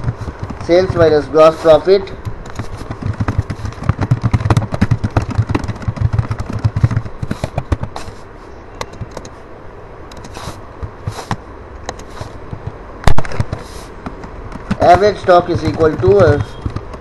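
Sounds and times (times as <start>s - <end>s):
keyboard typing: 0.0s - 8.2s, 8.8s - 9.4s, 10.1s - 17.0s.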